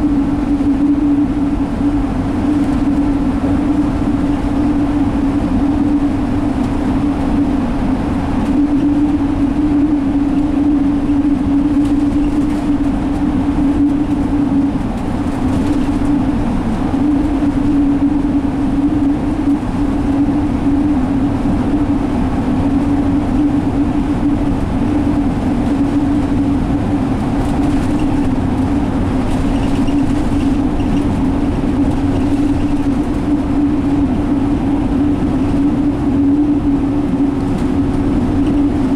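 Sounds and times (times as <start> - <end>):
bus diesel engine drone: 0.0 - 38.9
road and tyre noise: 0.0 - 38.9.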